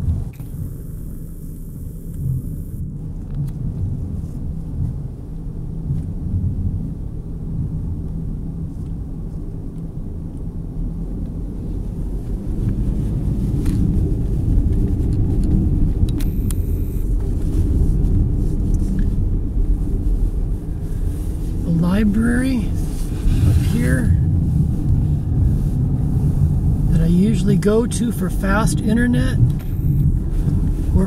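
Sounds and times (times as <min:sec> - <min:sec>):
car engine rumble: 0:00.0 - 0:31.0
tyres on snowy road: 0:00.0 - 0:31.0.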